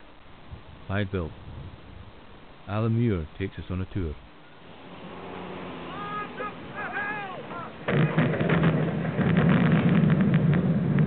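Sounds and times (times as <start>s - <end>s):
crackling: 0.0s - 11.0s.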